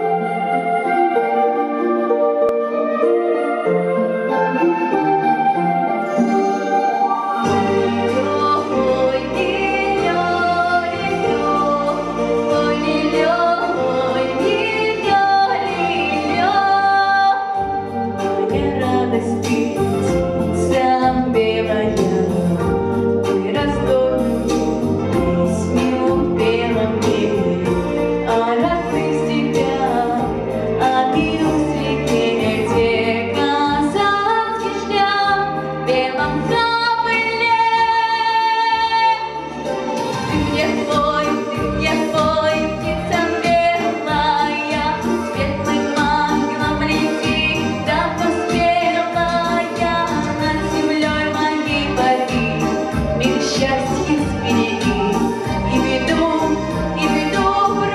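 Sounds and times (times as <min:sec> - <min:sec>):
instrumental accompaniment: 0:00.0 - 0:57.9
girl singing into microphone: 0:07.4 - 0:39.4, 0:40.3 - 0:57.9.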